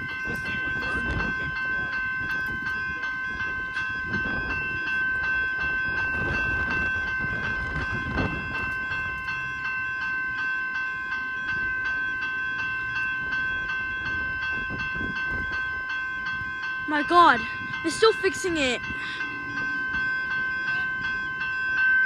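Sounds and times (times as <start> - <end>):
level crossing bell ringing: 0.0 - 22.0.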